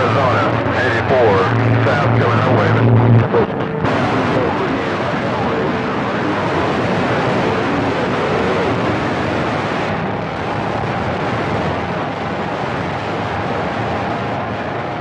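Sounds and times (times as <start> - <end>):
radio static: 0.0 - 14.0
faint warbling radio tones: 0.0 - 15.0.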